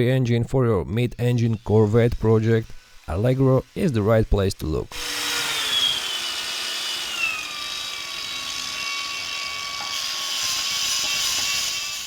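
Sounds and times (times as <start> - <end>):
handheld power tool whining: 1.4 - 12.0.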